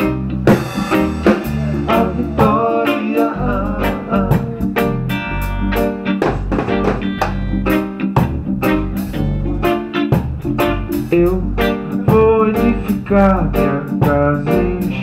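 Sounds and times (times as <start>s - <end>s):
bass line: 0.0s - 15.0s
drum kit: 0.0s - 15.0s
electric guitar: 0.0s - 15.0s.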